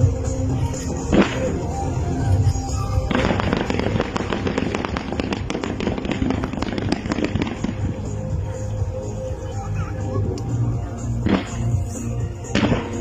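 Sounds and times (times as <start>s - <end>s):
background music: 0.0s - 13.0s
fireworks crackling: 0.0s - 13.0s.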